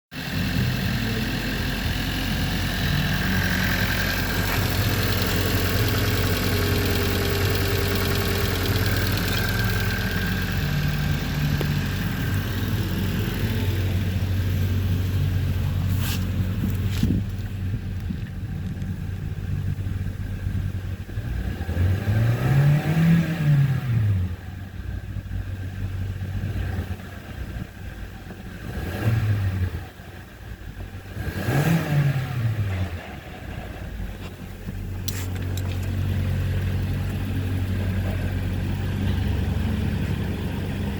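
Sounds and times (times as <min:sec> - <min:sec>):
car engine idling and revving: 0:00.1 - 0:40.9.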